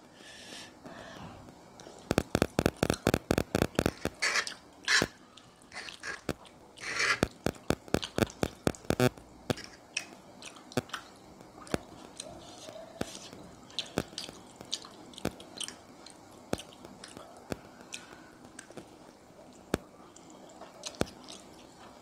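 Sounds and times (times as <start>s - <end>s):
wet chewing clicks: 2.1s - 22.0s.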